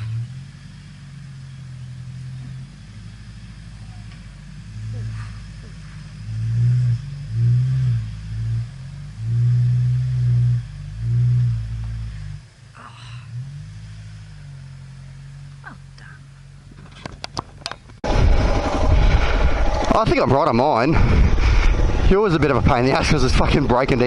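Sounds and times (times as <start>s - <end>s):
vehicle engine idling and revving: 0.0s - 24.0s.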